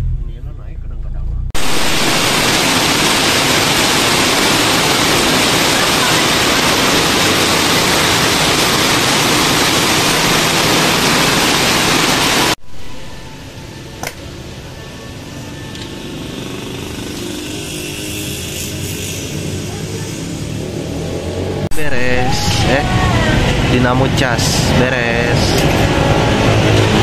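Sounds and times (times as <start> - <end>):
loud steady rushing noise: 1.6 - 27.0.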